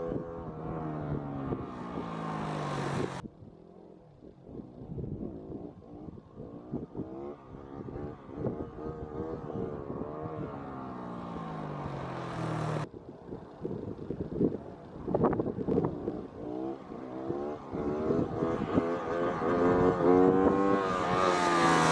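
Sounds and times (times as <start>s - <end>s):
motorcycle engine revving: 0.0s - 3.2s, 3.8s - 12.9s, 14.2s - 21.9s.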